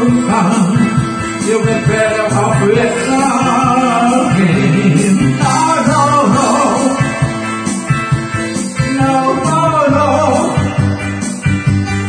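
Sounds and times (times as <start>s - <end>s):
person singing into a microphone: 0.0s - 7.6s, 8.6s - 11.1s
pop-rock backing track: 0.0s - 12.0s.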